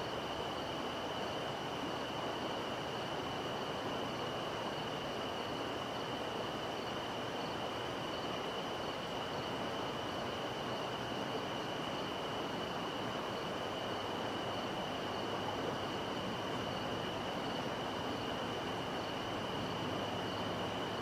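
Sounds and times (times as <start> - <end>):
river water flowing: 0.1 - 21.0.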